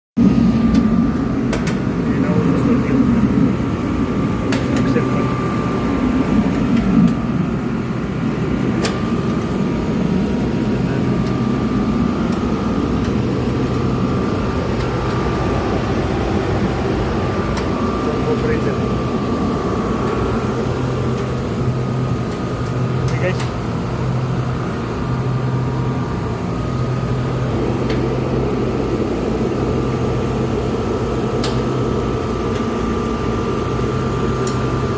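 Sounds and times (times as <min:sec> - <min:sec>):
high whine: 0:00.2 - 0:34.9
refrigeration equipment humming: 0:00.2 - 0:34.9.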